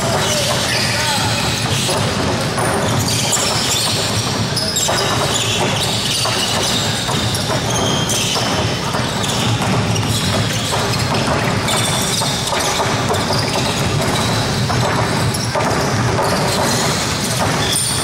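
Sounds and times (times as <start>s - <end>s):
basketballs bouncing on wooden court: 0.0s - 18.0s
sneakers squeaking: 0.0s - 18.0s.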